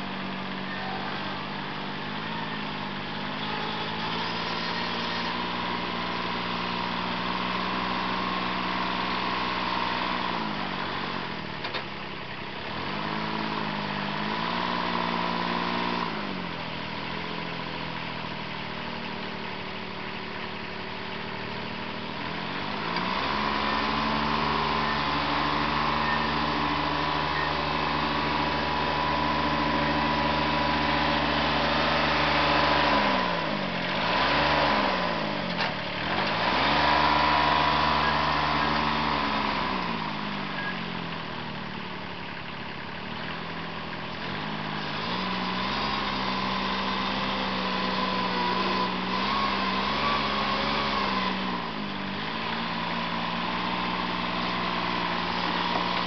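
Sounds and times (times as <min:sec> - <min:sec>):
tractor engine revving and idling: 0:00.0 - 0:56.0.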